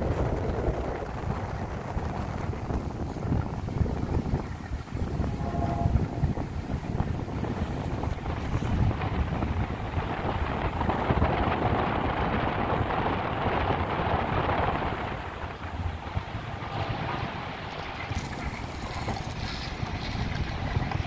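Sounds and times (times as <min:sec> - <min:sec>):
ship engines droning: 0:00.0 - 0:20.5
wind buffeting microphone: 0:00.0 - 0:21.0.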